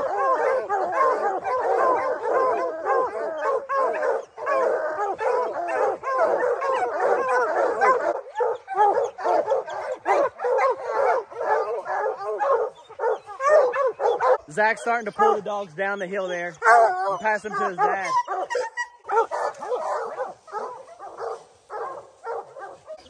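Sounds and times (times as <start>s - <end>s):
dogs barking and baying: 0.0s - 23.0s.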